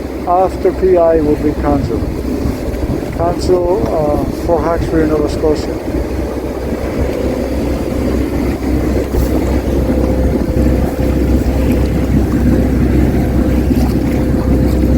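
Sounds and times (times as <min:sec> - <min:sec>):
boat engine running: 0:00.0 - 0:14.9
wind: 0:00.0 - 0:14.9.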